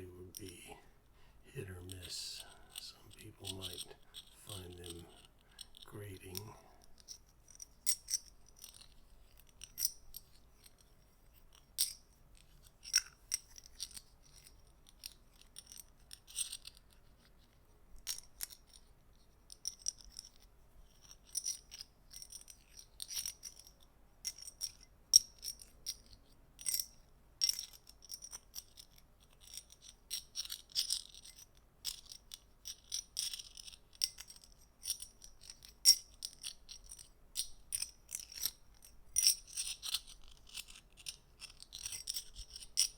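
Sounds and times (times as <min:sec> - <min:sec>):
small metal objects clicking: 0:02.7 - 0:10.9, 0:11.5 - 0:17.3, 0:19.5 - 0:42.9.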